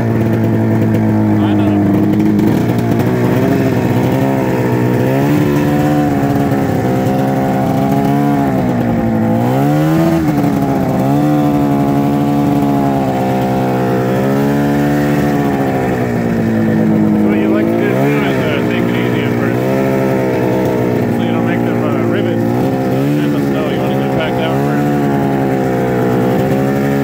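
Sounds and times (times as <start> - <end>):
snowmobile engine running: 0.0 - 27.0.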